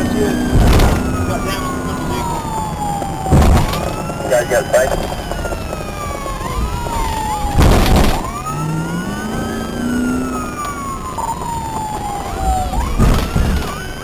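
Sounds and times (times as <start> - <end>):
police siren wailing: 0.0 - 14.0.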